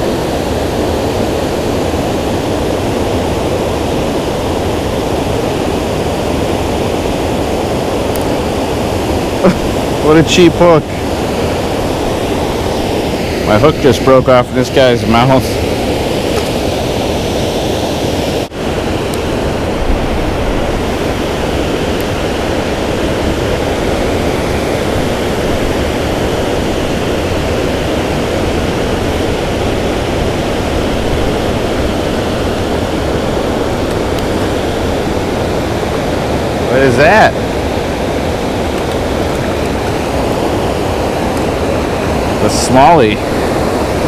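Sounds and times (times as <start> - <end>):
water roaring over a dam: 0.0 - 44.0.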